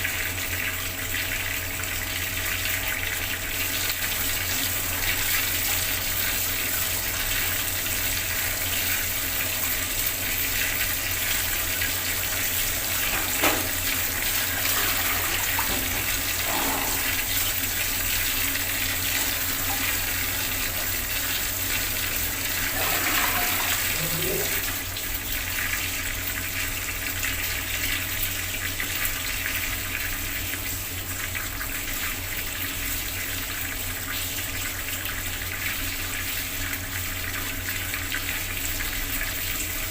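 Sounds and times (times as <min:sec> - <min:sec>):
tap water running and splashing: 0:00.0 - 0:39.9.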